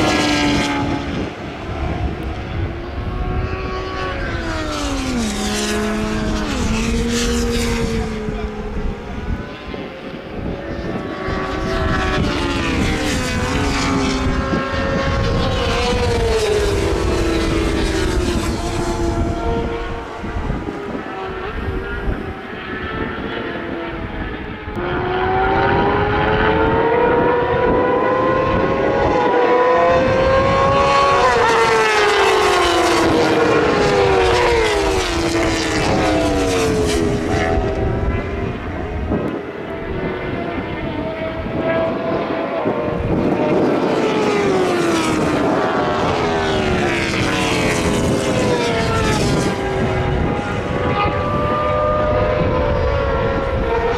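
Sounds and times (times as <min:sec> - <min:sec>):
racing motorcycles passing at speed: 0:00.0 - 0:53.9.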